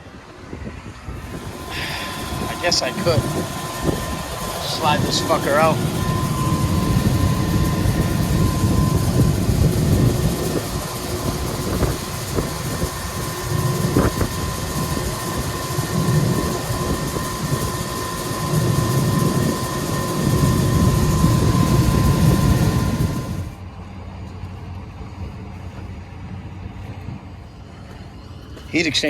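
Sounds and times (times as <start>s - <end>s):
hvac machinery drone: 0.0s - 29.0s.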